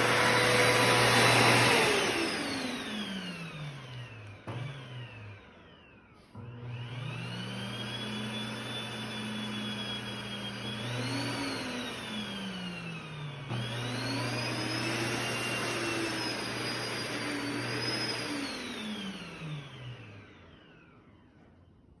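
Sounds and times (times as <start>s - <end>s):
vacuum cleaner motor whining: 0.0s - 21.6s.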